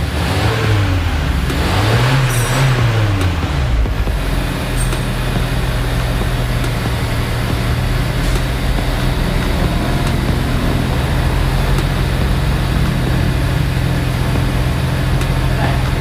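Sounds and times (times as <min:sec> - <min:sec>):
car engine humming steadily: 0:00.0 - 0:16.0.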